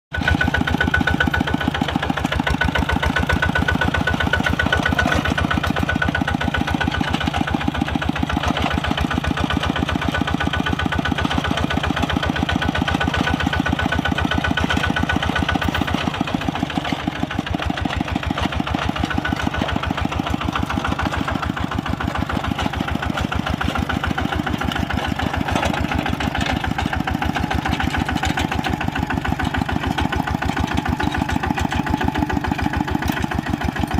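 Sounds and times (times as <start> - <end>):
diesel engine chugging: 0.1 - 33.9.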